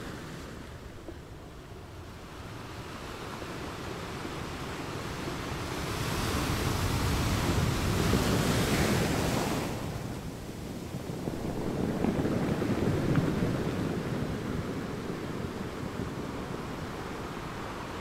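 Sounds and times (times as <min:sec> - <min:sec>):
ocean surf: 0:00.0 - 0:18.0.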